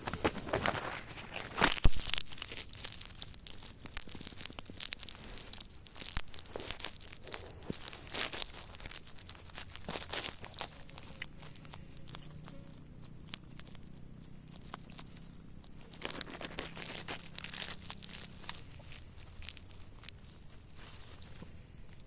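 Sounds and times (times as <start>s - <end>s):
crackling and rustling: 0.0s - 22.0s.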